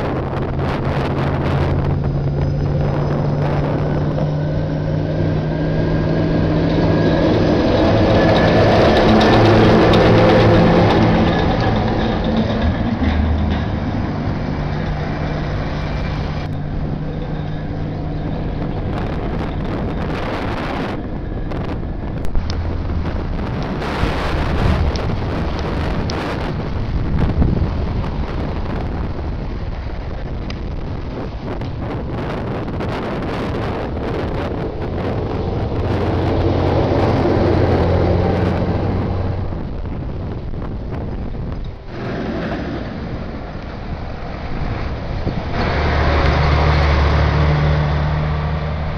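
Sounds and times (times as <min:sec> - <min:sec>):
heavy vehicles driving past: 0:00.0 - 0:48.9
wind buffeting microphone: 0:00.0 - 0:48.9.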